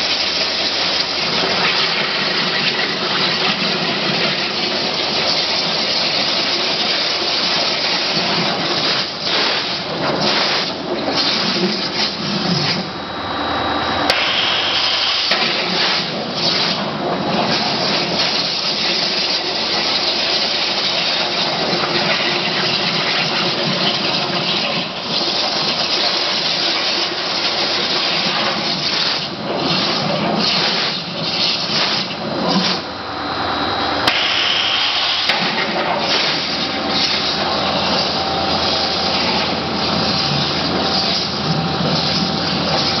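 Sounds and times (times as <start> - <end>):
waterjet cutter hissing: 0.0 - 43.0.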